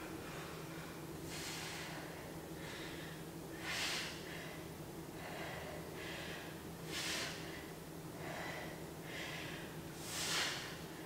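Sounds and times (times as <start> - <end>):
woman breathing hard: 0.1 - 11.0.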